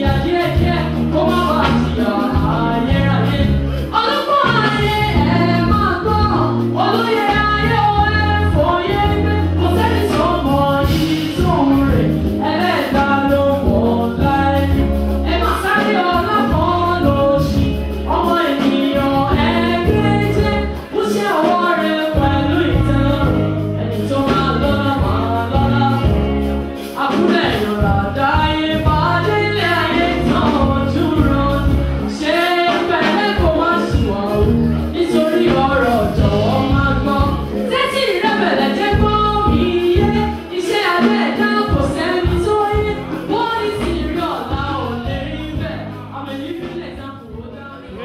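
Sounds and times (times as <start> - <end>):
bass line: 0.0 - 48.0
lead singer: 0.0 - 48.0.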